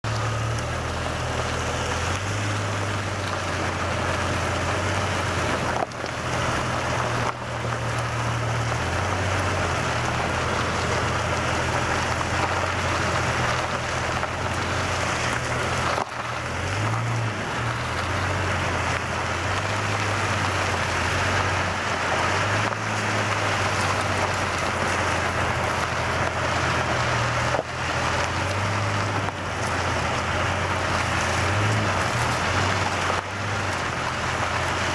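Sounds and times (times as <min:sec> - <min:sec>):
low engine hum: 0:00.0 - 0:34.9
tire rolling over sand: 0:00.0 - 0:34.9.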